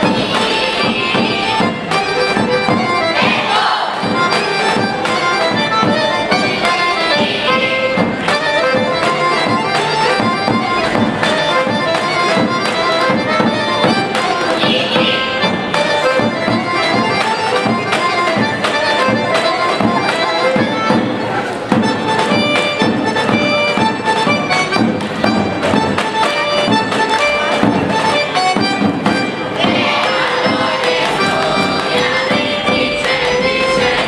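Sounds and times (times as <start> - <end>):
folk dance music with drone: 0.0 - 34.0.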